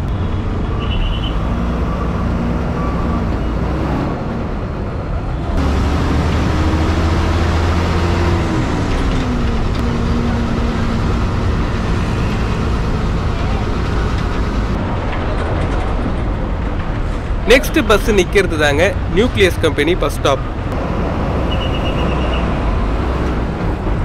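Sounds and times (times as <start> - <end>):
bus diesel engine: 0.0 - 24.0
road noise: 0.0 - 24.0.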